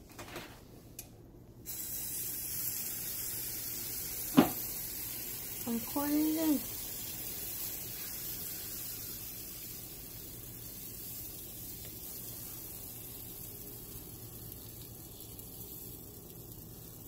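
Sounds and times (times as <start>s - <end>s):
waffle batter sizzling: 1.6s - 17.0s.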